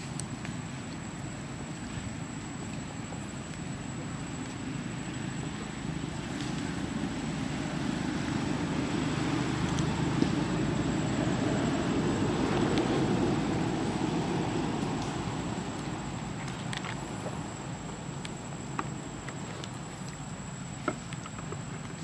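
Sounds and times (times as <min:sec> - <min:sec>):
distant engine rumble: 0:00.0 - 0:22.0.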